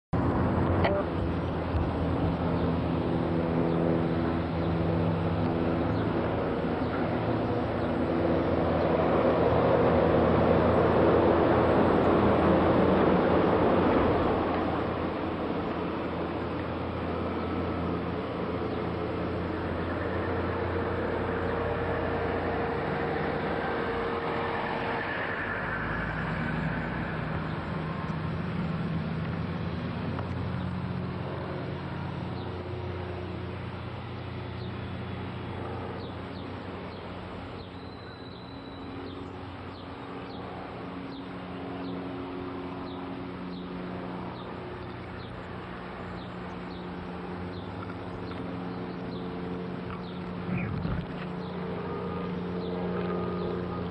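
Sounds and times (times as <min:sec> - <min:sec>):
vehicle engine running: 0:00.1 - 0:53.9.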